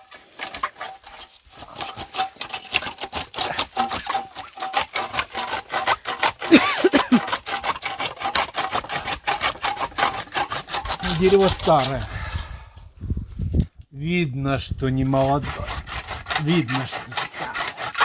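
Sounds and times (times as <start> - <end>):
hand saw cutting wood: 0.0 - 12.6, 15.0 - 18.0.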